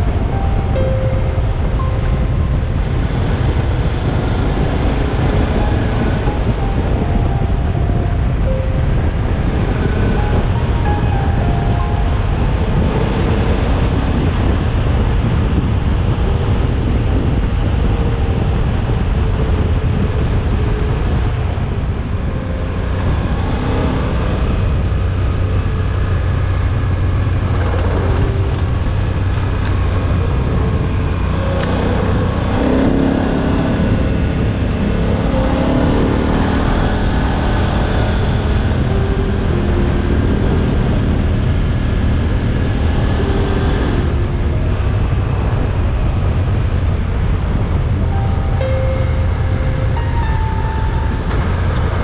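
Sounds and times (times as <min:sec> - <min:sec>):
wind noise on microphone: 0:00.0 - 0:52.0.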